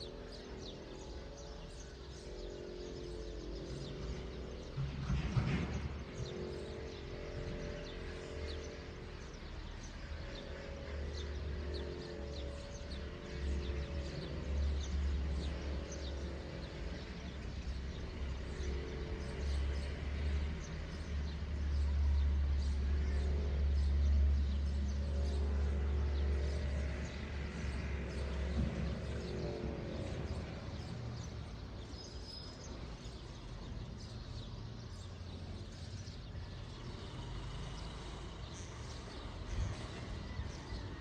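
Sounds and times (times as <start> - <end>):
faint wavering hum: 0.0 - 41.0
small birds chirping: 0.0 - 41.0.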